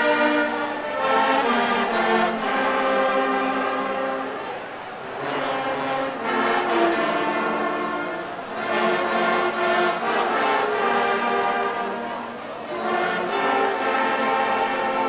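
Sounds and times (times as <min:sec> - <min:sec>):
brass band playing loudly: 0:00.0 - 0:15.0.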